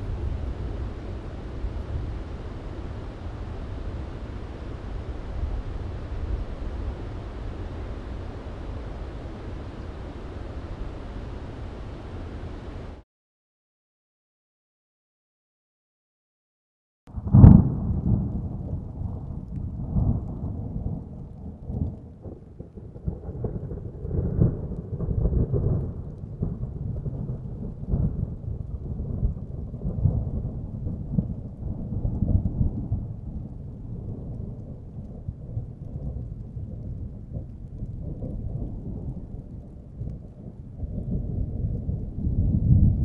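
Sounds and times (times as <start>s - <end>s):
rain: 0.0s - 13.0s, 17.1s - 43.0s
rolling thunder: 0.0s - 13.0s, 17.1s - 43.0s.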